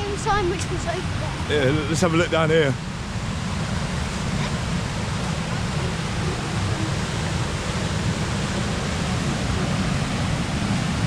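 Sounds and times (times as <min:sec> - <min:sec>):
fast-flowing floodwater rushing: 0:00.0 - 0:11.0.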